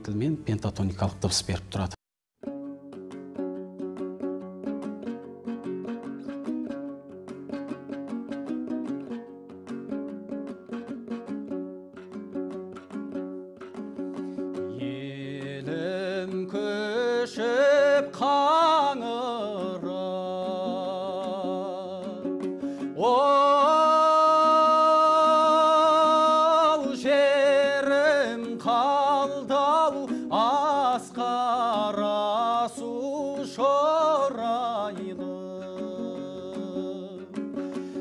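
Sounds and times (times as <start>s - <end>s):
person singing folk song: 2.4s - 38.0s
plucked lute: 2.4s - 38.0s.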